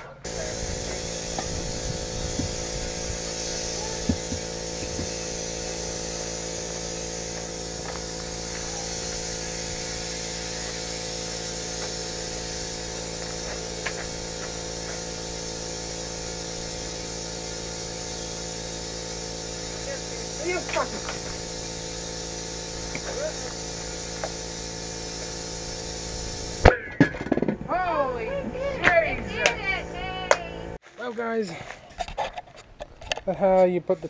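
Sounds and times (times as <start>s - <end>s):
air compressor humming and hissing: 0.2s - 30.8s.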